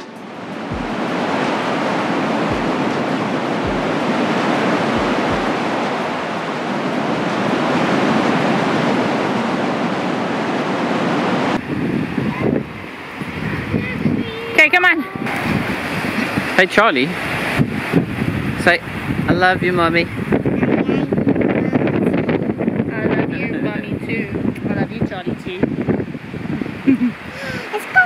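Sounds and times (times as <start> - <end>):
surf washing onto beach: 0.0 - 28.0
wind buffeting microphone: 0.0 - 28.0.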